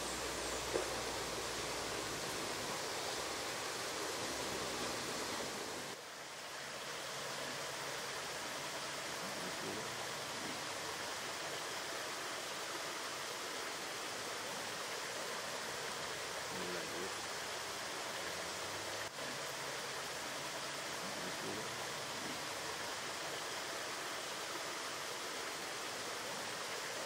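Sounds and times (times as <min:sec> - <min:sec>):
forest ambience hiss: 0:00.0 - 0:27.0.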